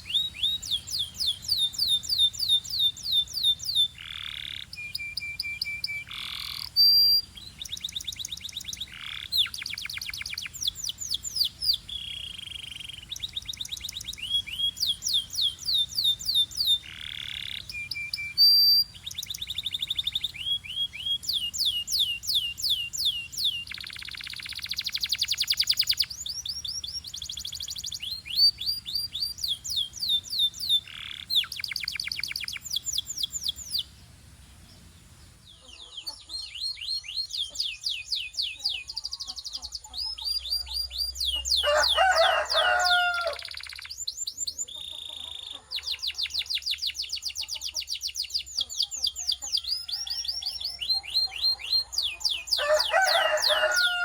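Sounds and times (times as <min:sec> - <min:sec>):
canary song trills: 0:00.0 - 0:54.0.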